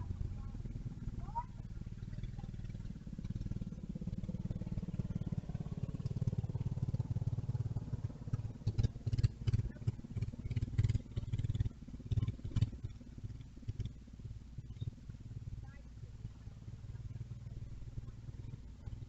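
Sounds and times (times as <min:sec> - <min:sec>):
mini bike engine running: 0:00.0 - 0:19.0.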